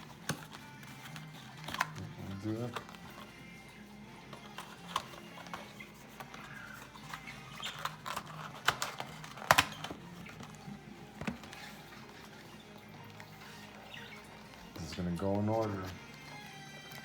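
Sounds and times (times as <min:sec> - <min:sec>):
packs clicking and rustling: 0:00.0 - 0:03.6, 0:04.3 - 0:17.0.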